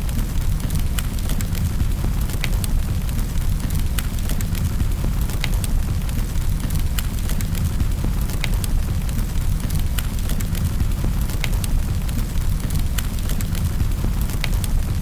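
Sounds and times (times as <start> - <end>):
low rumble of burning logs: 0.0 - 15.0
wood fire crackling: 0.0 - 15.0.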